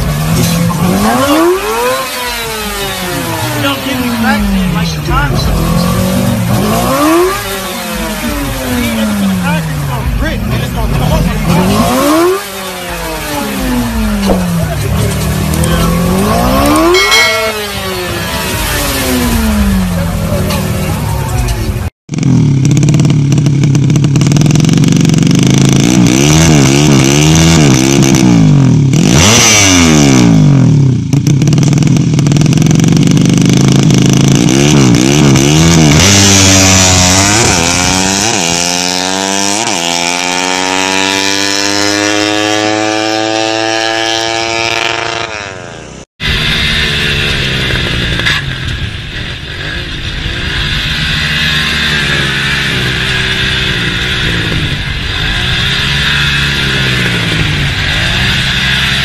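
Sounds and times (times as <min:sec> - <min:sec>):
motorcycle engine revving: 0:00.0 - 0:59.0
rough engine sound: 0:00.0 - 0:59.0.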